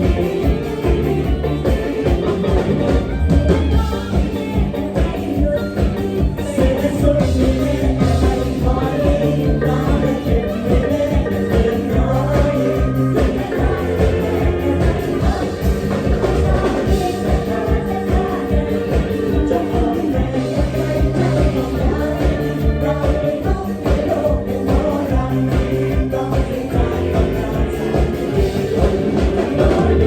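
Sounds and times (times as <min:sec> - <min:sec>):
bass: 0:00.0 - 0:30.0
person singing: 0:00.0 - 0:30.0
steady drum beat: 0:00.0 - 0:30.0.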